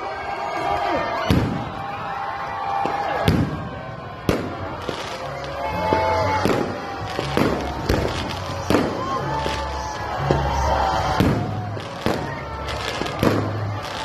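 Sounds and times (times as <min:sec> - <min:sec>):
fireworks bangs: 0:00.8 - 0:02.0, 0:02.6 - 0:14.0.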